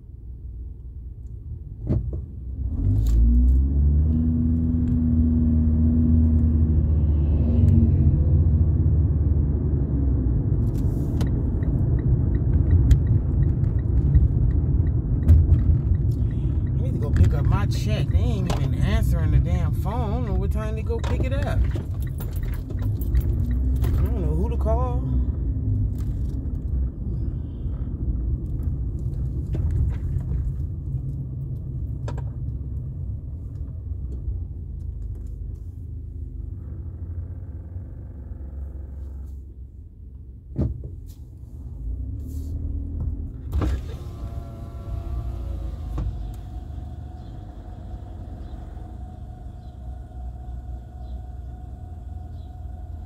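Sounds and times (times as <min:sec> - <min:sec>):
car engine rumble: 0:00.0 - 0:53.0
road noise: 0:00.0 - 0:53.0.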